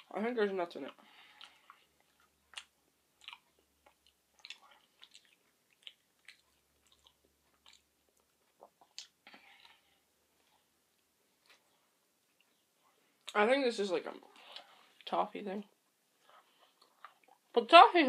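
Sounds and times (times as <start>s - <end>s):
faint chewing: 0.7s - 13.4s, 14.1s - 17.6s.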